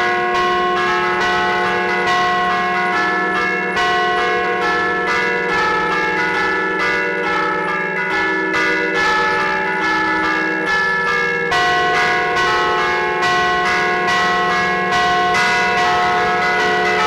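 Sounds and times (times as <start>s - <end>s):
church bells ringing a quick tune: 0.0s - 17.0s.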